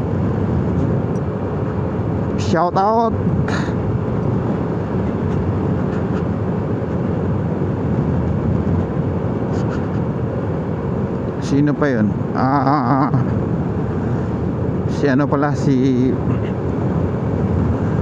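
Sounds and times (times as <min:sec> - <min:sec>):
motorcycle engine hum: 0:00.0 - 0:18.0
wind and road noise: 0:00.0 - 0:18.0.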